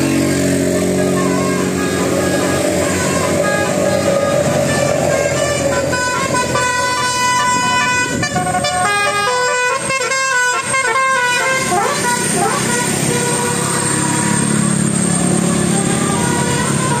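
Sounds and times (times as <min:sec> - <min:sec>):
vehicle musical horn tune: 0:00.0 - 0:17.0.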